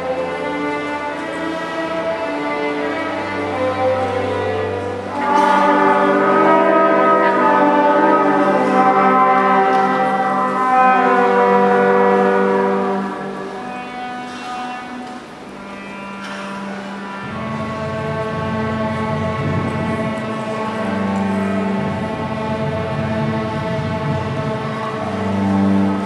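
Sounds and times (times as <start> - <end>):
orchestra strings holding chords: 0.0 - 26.0.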